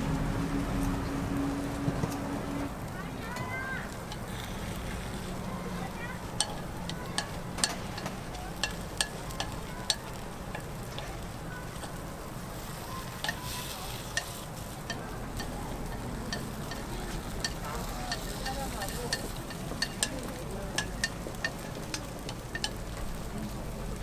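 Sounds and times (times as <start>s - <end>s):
batter sizzling in a mold: 2.6s - 24.0s.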